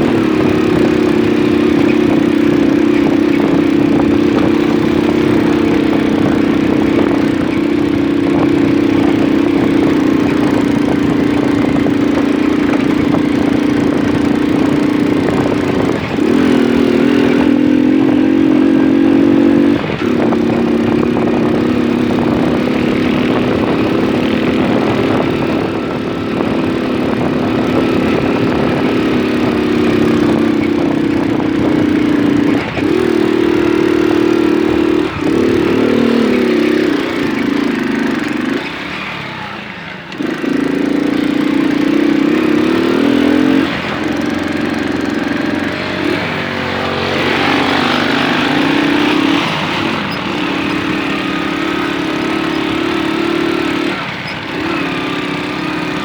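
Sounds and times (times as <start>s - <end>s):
moped engine running: 0.0s - 56.0s.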